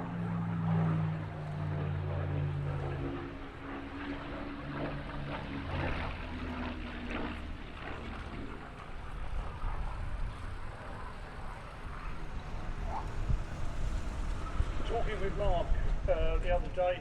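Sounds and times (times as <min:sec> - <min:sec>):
propeller aircraft engine droning: 0:00.0 - 0:17.0.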